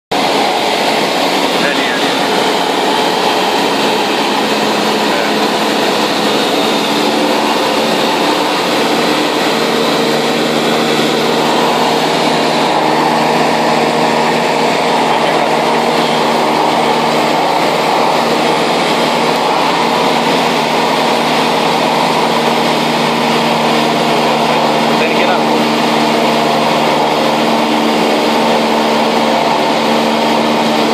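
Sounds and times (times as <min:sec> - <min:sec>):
broad rushing noise: 0:00.1 - 0:30.9
light aircraft engine humming: 0:00.1 - 0:30.9.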